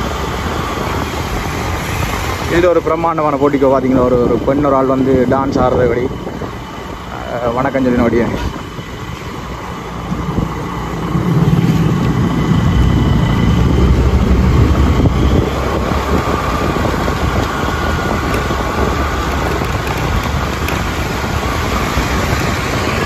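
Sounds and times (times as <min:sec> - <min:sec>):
motorbike engines running: 0:00.0 - 0:23.0
road and wind rumble: 0:00.0 - 0:23.0.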